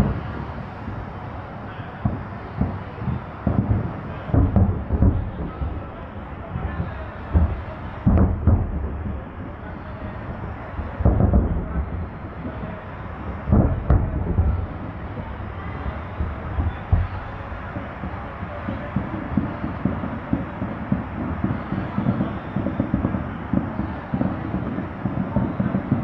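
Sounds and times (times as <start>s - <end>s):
firework shells booming: 0.0s - 26.0s
steady fireworks rumble: 0.0s - 26.0s.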